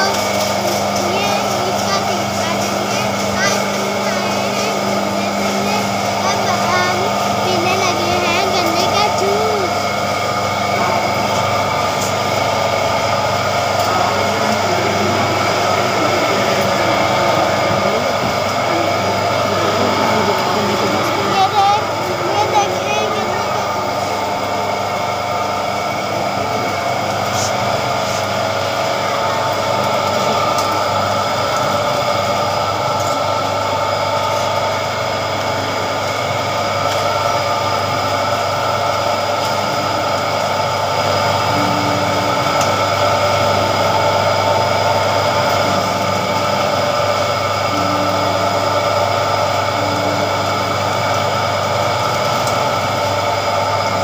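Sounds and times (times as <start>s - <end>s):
juice machine motor humming: 0.0s - 54.0s.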